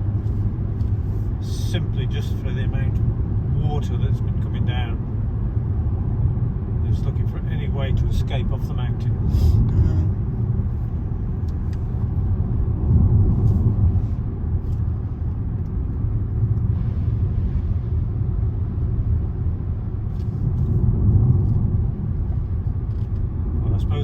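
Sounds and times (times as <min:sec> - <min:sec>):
car road rumble from inside: 0:00.0 - 0:24.0.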